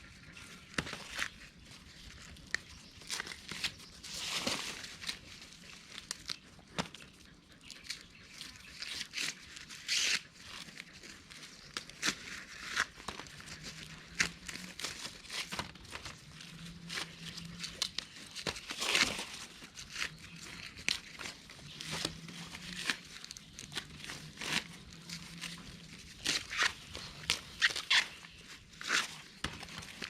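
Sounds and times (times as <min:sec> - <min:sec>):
dry corn leaves rustling: 0:00.0 - 0:30.0.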